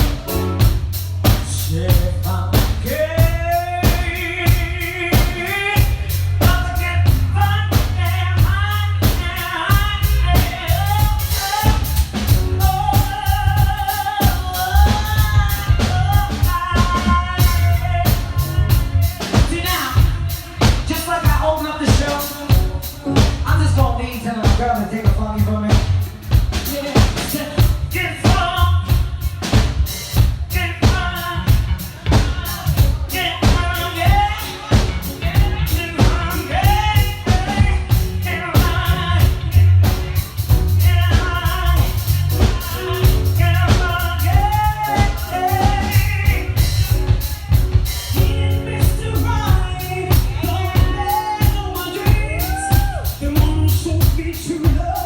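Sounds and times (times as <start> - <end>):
bass line: 0.0 - 55.0
drum kit beat: 0.0 - 55.0
person singing: 0.0 - 55.0.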